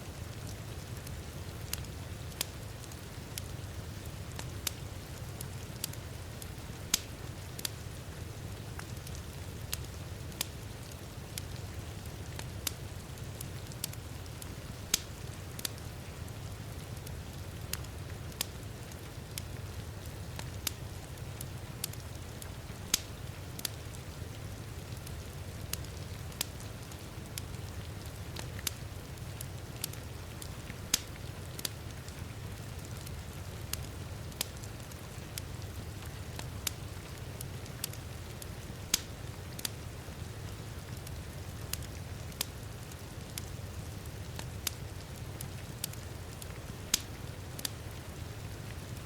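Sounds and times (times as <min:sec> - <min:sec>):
wood fire crackling and popping: 0:00.1 - 0:49.0.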